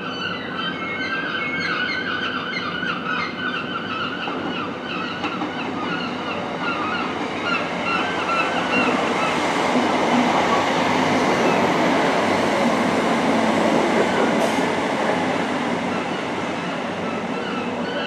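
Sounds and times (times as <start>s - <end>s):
train rumbling on rails: 0.2s - 18.0s.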